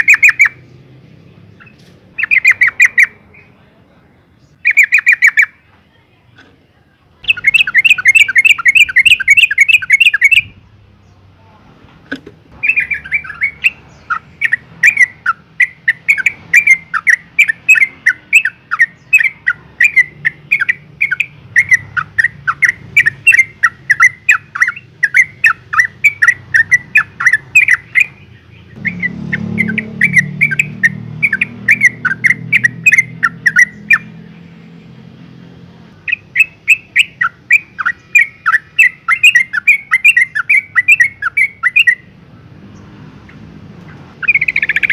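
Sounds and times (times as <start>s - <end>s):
bird chattering call notes: 0.0s - 0.6s, 1.5s - 3.5s, 4.5s - 5.6s, 7.2s - 10.6s, 12.1s - 34.2s, 36.0s - 42.2s, 43.3s - 44.9s.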